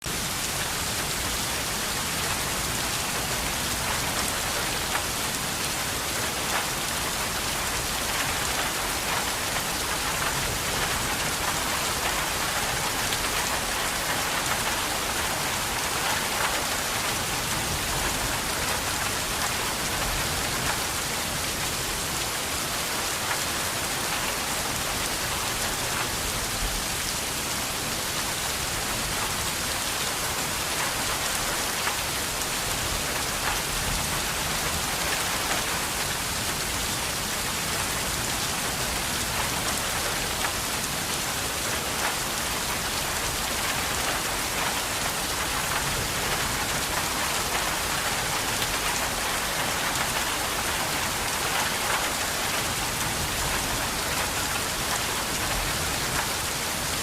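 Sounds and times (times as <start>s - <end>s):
steady rain falling: 0.0s - 57.0s
raindrops pattering: 0.1s - 57.0s.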